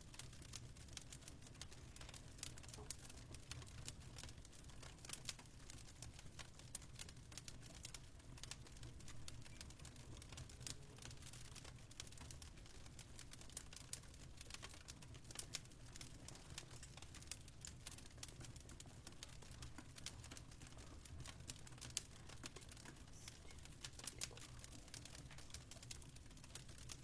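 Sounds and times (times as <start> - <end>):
fireplace crackling: 0.0 - 27.0.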